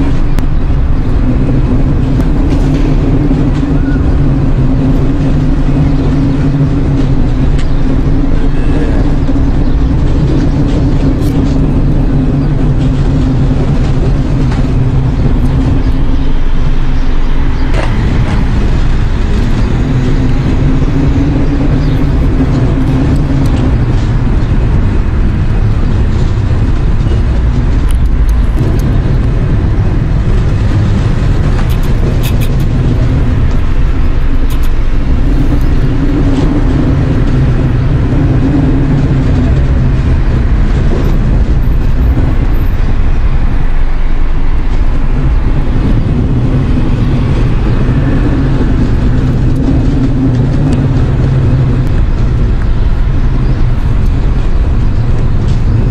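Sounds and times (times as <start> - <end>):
low rumble with droning hum: 0.0 - 55.9.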